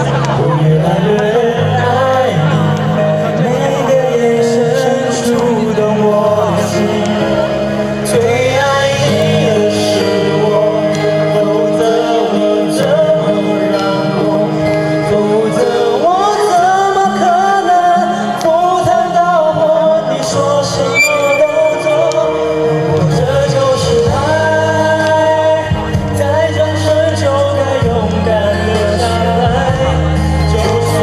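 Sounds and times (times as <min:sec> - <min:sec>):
backing track with steady bass: 0:00.0 - 0:31.0
person singing a love song: 0:00.0 - 0:31.0.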